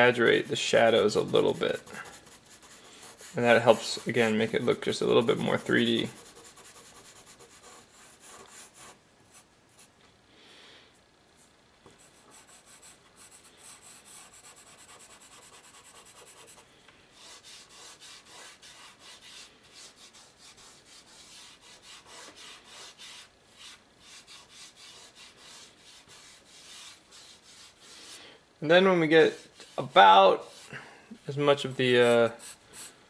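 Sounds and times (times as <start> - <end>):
pencil scratching on paper: 0.0 - 9.9, 12.0 - 16.6, 17.2 - 28.2, 29.3 - 30.7, 31.6 - 32.9.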